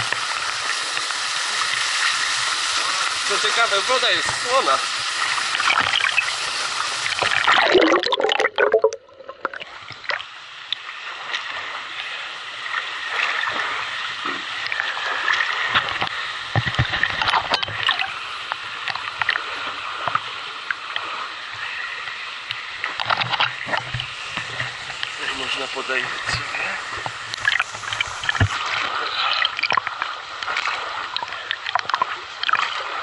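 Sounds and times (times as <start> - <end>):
water splashing and sloshing: 0.0 - 33.0.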